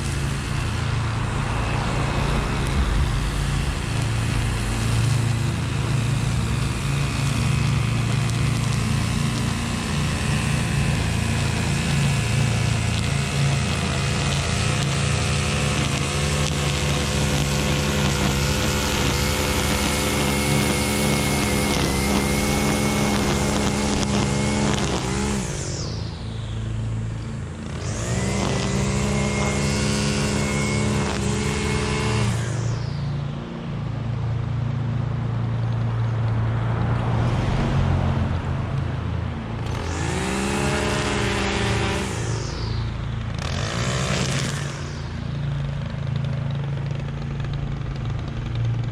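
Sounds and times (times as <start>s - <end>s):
mower engine running: 0.0s - 48.9s.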